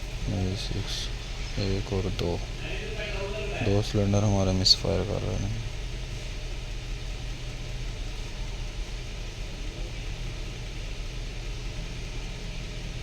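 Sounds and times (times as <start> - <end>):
engine idling with misfires: 0.0 - 13.0.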